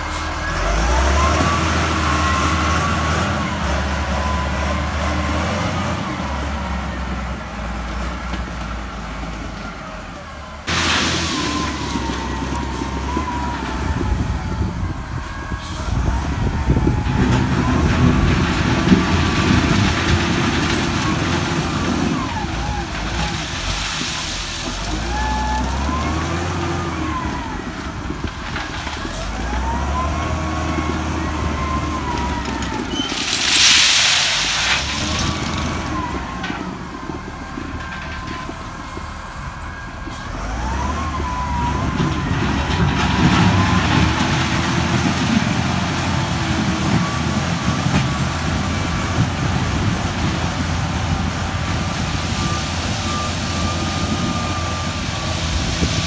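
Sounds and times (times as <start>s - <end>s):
wheel loader diesel engine revving: 0.0s - 56.0s.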